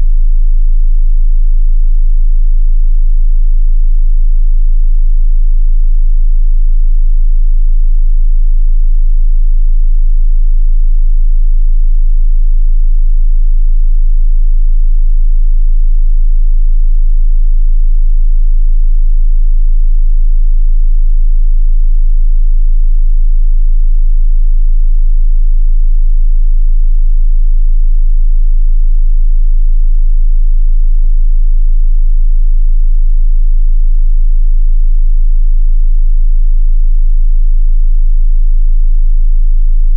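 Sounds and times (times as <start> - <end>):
deep sine-wave test tone: 0.0 - 39.9.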